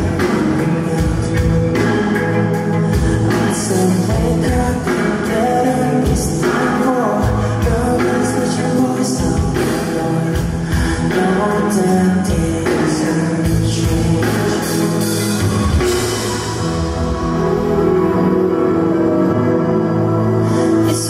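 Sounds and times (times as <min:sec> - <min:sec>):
bass guitar: 0:00.0 - 0:21.0
drums: 0:00.0 - 0:21.0
electric guitar: 0:00.0 - 0:21.0
man singing lead vocal: 0:00.0 - 0:21.0.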